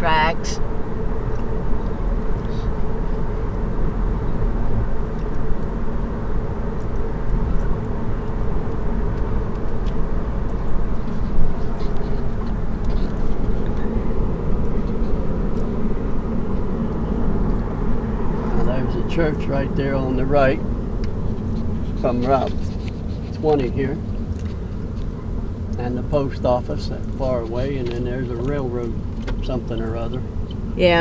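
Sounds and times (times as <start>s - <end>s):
road and tyre noise in car cabin: 0.0s - 31.0s.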